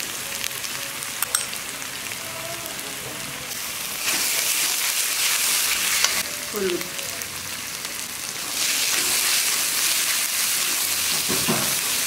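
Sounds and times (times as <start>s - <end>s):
pastes sizzling in hot oil: 0.0s - 12.0s.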